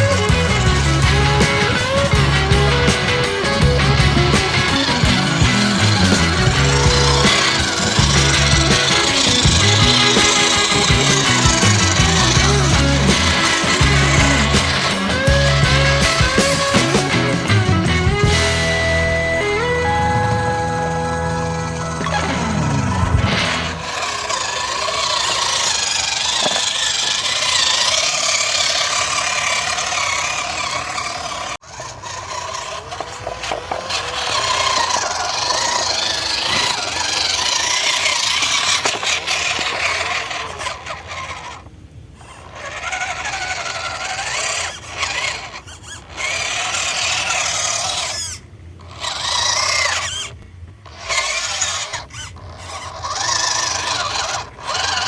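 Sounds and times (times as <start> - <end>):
electric motor and gearbox whining: 0.0 - 55.0.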